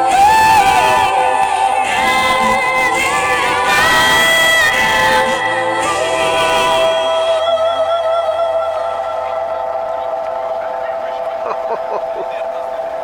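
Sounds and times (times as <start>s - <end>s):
voices singing in harmony: 0.0s - 13.0s.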